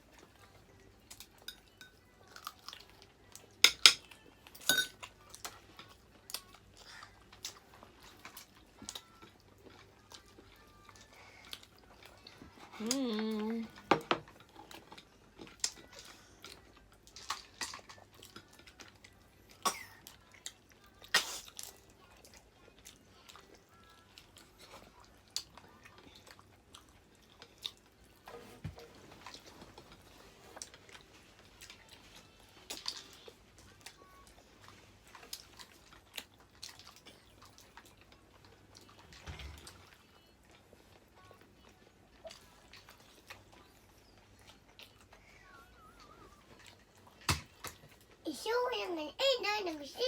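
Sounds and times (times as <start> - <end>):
chewing seafood: 0.0 - 48.2.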